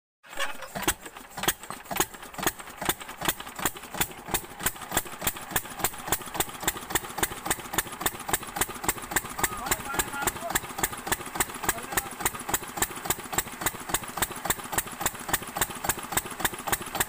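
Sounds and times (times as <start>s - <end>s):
diesel engine knocking: 0.6s - 17.0s.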